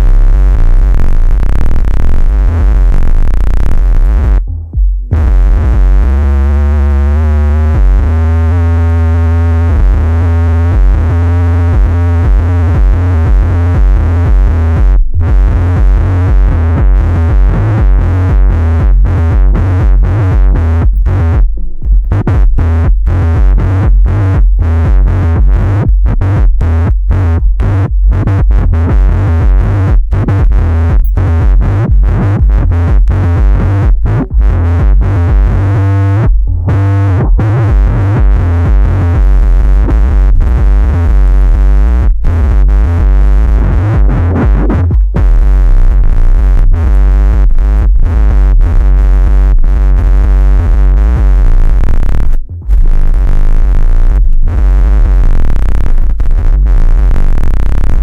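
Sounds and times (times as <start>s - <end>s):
distorted electronic noise: 0.0s - 58.0s
pounding bass pulse: 0.0s - 58.0s.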